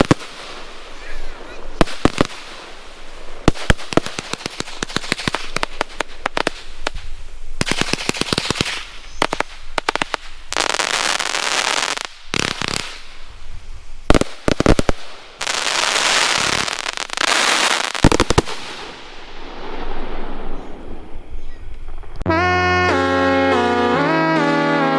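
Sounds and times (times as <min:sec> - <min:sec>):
firework crackling: 0:00.0 - 0:22.3
firework shots: 0:00.0 - 0:22.3.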